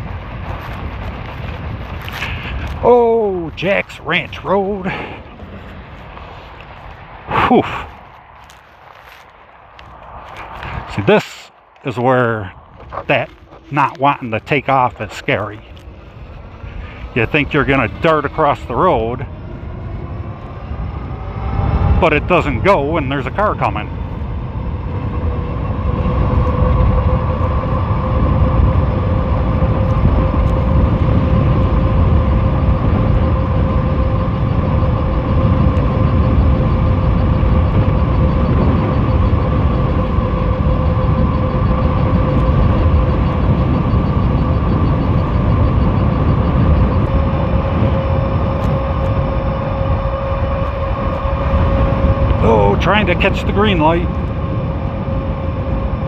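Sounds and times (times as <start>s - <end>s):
electric motors whining: 0.0s - 56.0s
wind rushing on microphone: 0.0s - 56.0s.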